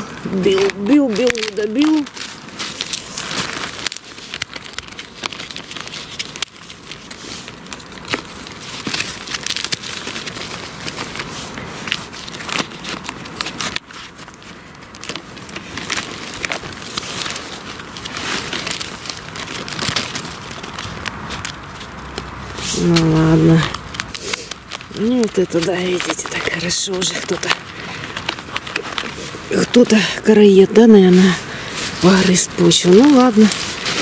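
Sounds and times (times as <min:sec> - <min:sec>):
rotten wood crackling and breaking: 0:00.0 - 0:34.0.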